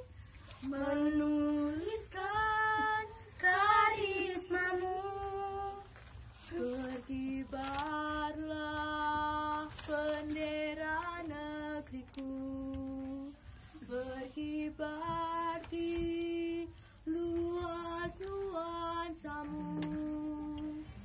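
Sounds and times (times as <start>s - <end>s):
girls singing unaccompanied: 0.6s - 21.0s.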